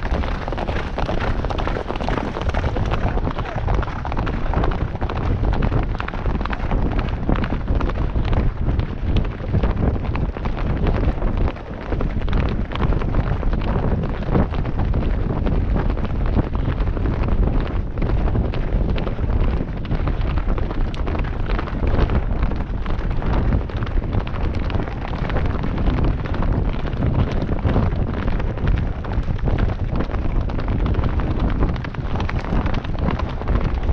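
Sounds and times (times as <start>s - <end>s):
hooves thudding on dirt: 0.0s - 33.9s
wind buffeting microphone: 0.0s - 33.9s.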